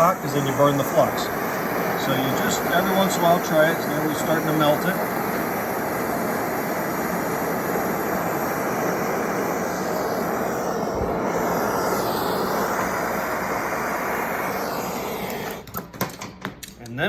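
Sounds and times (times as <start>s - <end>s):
gas torch roaring hiss: 0.0s - 16.8s.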